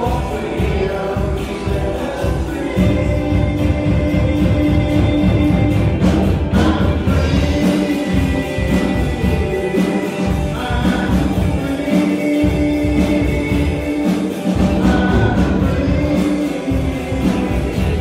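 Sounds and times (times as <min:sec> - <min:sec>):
band with guitar: 0:00.0 - 0:18.0
woman singing: 0:00.0 - 0:18.0.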